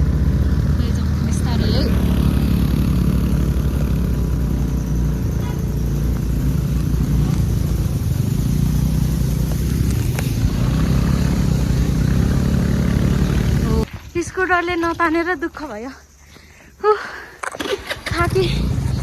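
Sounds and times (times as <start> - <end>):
motor scooter engine straining: 0.0 - 13.9, 17.4 - 19.0.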